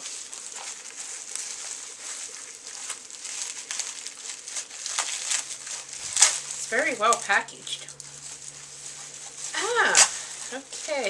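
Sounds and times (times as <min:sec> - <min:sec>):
plastic envelope crinkling: 0:00.0 - 0:11.0.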